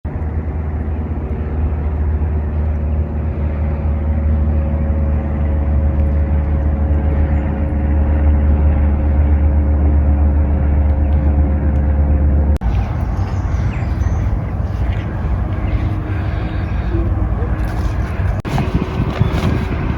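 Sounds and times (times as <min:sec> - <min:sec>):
faint steady hum tones: 0:00.1 - 0:19.9
vehicle rumble: 0:00.1 - 0:19.9.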